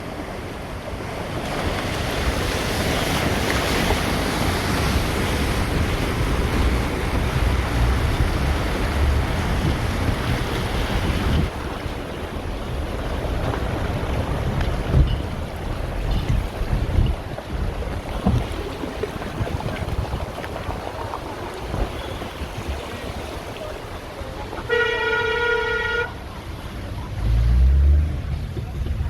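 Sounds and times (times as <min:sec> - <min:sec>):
wind buffeting microphone: 0:00.0 - 0:24.7
river rushing: 0:00.0 - 0:29.0.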